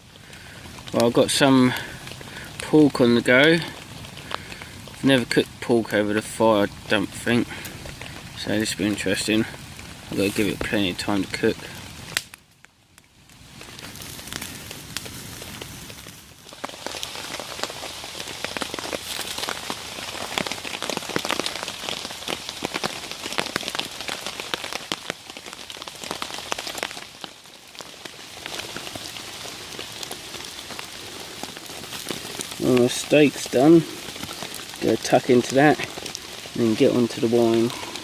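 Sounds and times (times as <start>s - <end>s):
heavy rain falling: 0.0s - 12.2s, 13.4s - 38.0s.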